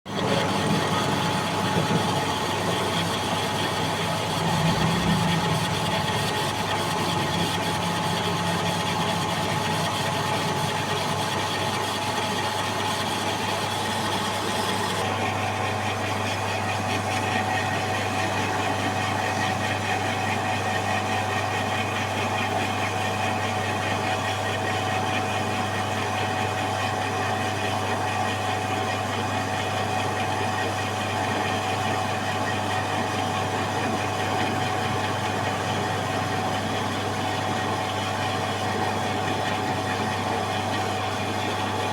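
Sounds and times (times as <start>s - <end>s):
machine tool humming and whining: 0.1s - 41.9s.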